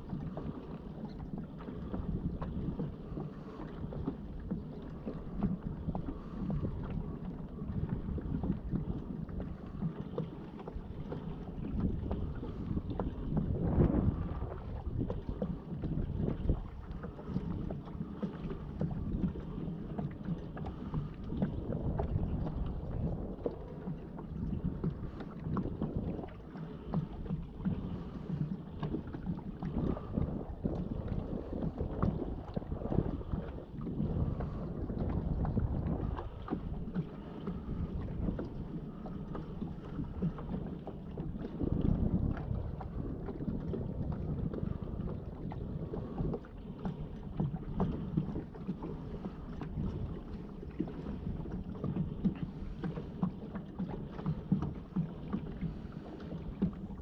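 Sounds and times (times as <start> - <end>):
water lapping against hull: 0.0 - 57.0
wind buffeting microphone: 0.0 - 57.0.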